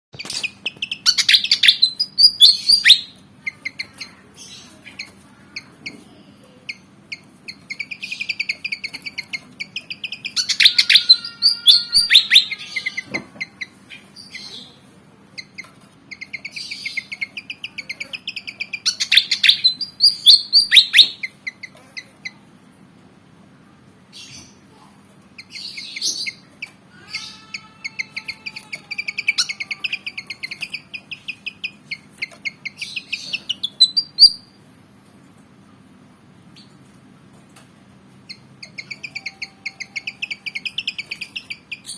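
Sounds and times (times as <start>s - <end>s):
bird chattering song: 0.2s - 22.4s, 25.4s - 34.6s, 38.3s - 41.9s.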